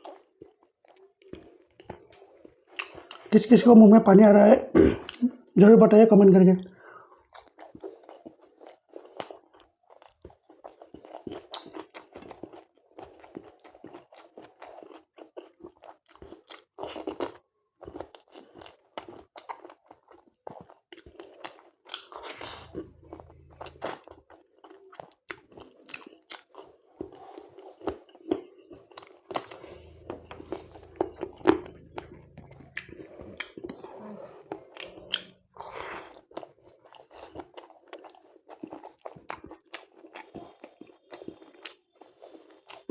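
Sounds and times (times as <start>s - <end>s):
person chewing and biting food: 7.3s - 42.9s.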